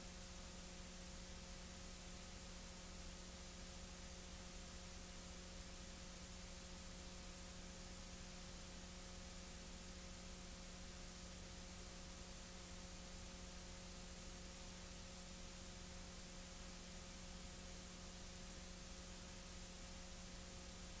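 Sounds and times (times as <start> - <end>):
faint steady hiss: 0.0 - 21.0
low electrical hum: 0.0 - 21.0.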